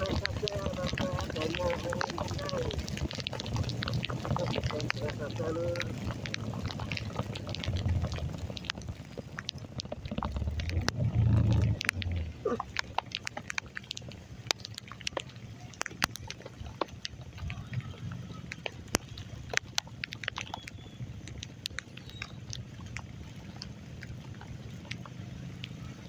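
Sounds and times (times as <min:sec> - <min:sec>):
heavy rain rumble: 0:00.0 - 0:26.0
raindrops tapping close: 0:00.0 - 0:26.0.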